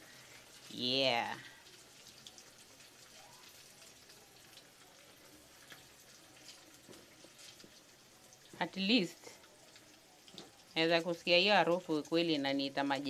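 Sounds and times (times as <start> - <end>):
samosas frying in hot oil: 0.0 - 13.0.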